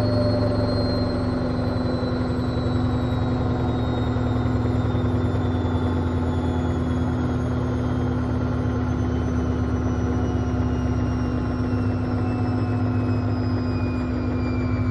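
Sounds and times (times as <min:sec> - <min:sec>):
motor whine falling in pitch: 0:00.0 - 0:14.9.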